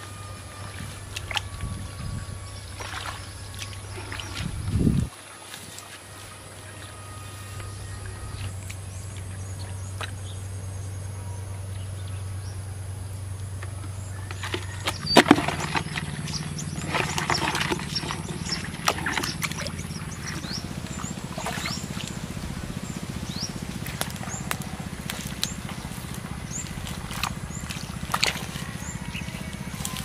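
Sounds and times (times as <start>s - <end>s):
low drone: 5.8s - 30.0s.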